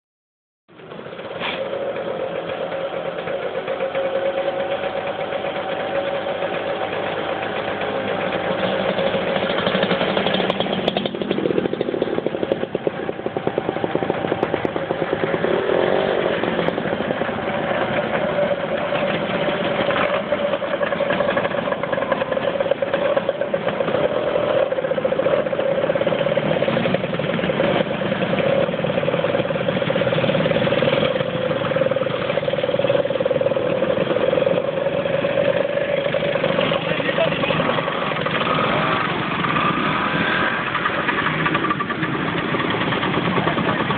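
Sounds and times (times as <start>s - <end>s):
motor scooters riding past: 0.8s - 43.9s.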